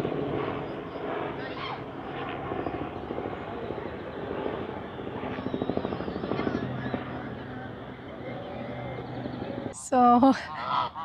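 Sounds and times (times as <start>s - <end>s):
low mechanical drone pulsing: 0.0s - 9.8s.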